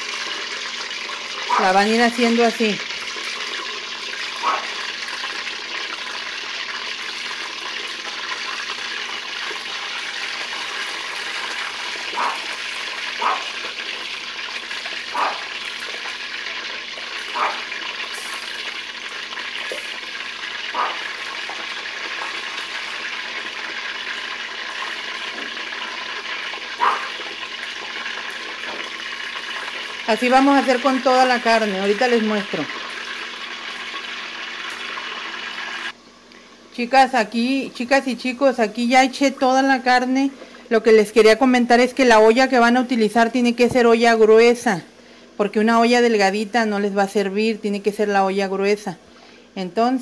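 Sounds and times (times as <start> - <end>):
pork sizzling in hot lard: 0.0 - 43.7.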